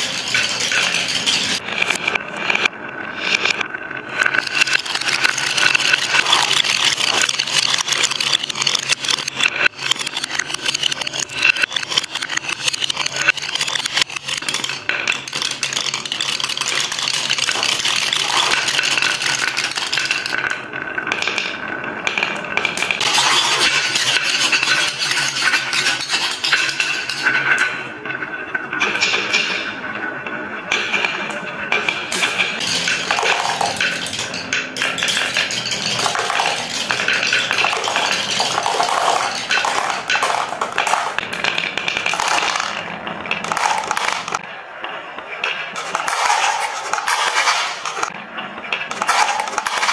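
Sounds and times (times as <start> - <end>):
marbles rattling on wooden tracks: 0.0 - 27.8, 30.8 - 49.9.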